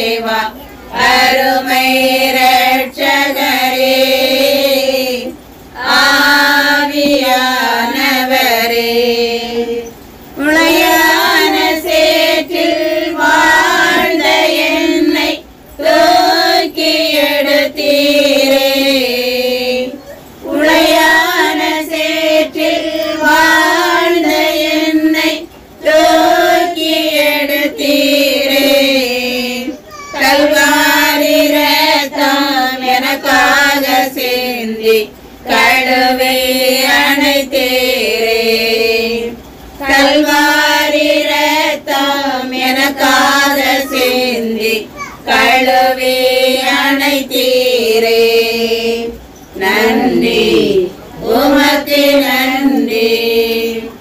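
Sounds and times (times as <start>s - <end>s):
women and children singing: 0.0s - 54.0s.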